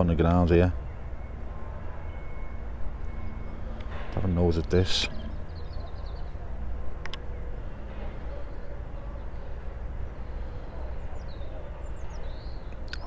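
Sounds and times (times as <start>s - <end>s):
low outdoor rumble: 0.0s - 13.0s
faint bird chirps: 0.7s - 13.0s.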